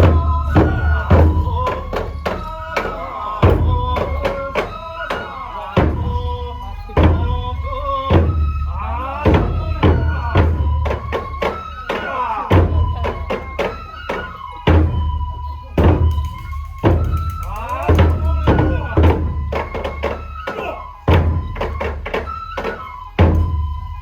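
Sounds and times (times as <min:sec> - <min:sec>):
drum beating steadily: 0:00.0 - 0:24.0
flute holding long notes: 0:00.0 - 0:24.0.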